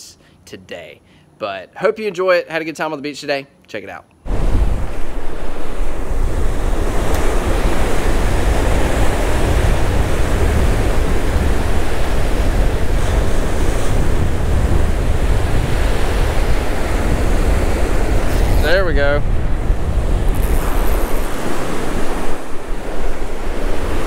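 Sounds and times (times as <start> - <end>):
surf breaking on beach: 4.3 - 24.0
wind buffeting microphone: 4.3 - 24.0.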